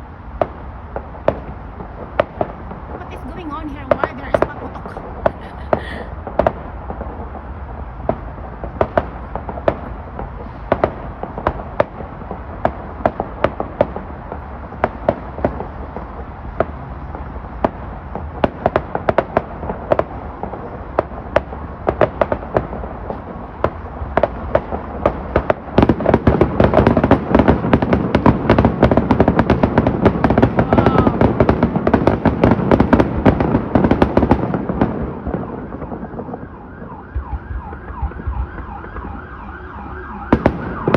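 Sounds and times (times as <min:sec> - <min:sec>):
fireworks bangs and pops: 0:00.0 - 0:40.9
fireworks crackling: 0:00.0 - 0:40.9.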